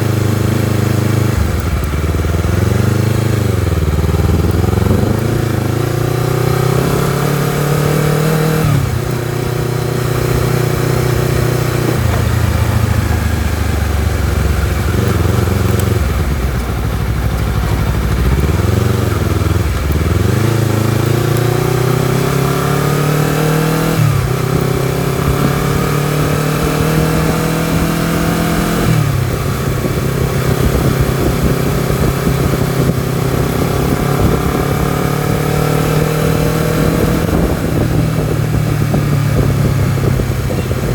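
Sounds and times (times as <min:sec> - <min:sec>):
motorcycle engine revving under load: 0:00.0 - 0:40.9.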